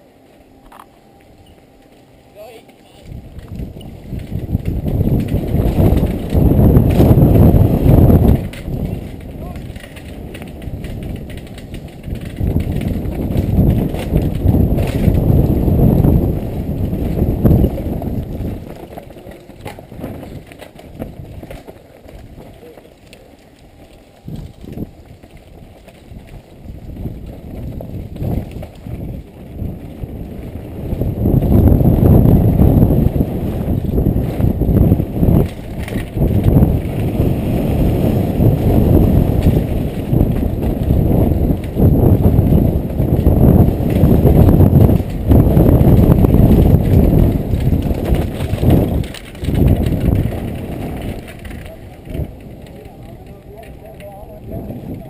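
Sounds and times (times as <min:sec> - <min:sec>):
wind buffeting microphone: 0:00.0 - 0:55.0
mountain bike rattling over rocks: 0:00.2 - 0:55.0.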